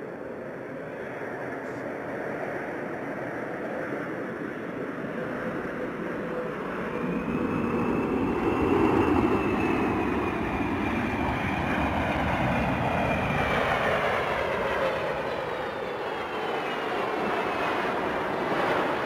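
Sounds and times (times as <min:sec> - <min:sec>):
jet engines roaring with whine: 0:00.0 - 0:19.0.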